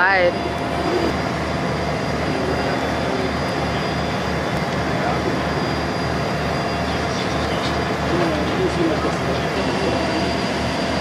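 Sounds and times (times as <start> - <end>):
ferry engine throbbing: 0.0 - 11.0.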